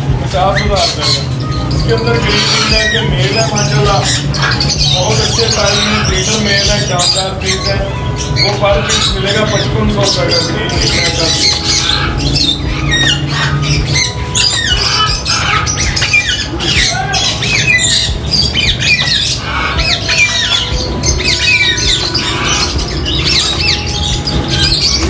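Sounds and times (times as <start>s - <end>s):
parrots squawking and screeching: 0.0s - 25.0s.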